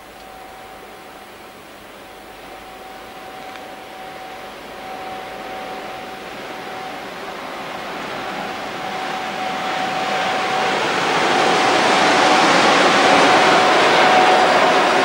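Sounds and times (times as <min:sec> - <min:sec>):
faint steady whine: 0:00.0 - 0:15.0
train wheels on rails: 0:00.0 - 0:15.0.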